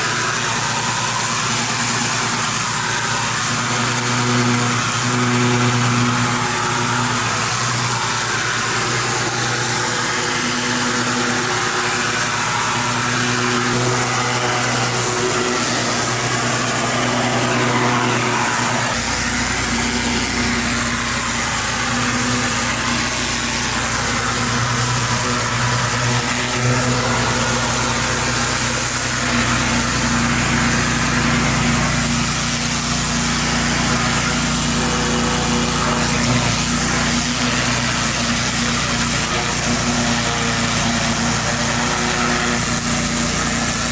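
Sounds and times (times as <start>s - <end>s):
high-pressure water spray hiss: 0.0s - 43.9s
pressure washer engine running: 0.0s - 43.9s.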